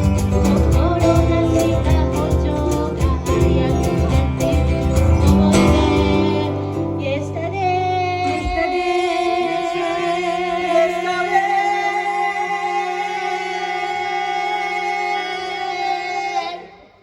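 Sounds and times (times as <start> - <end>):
live acoustic band with singing: 0.0 - 16.8.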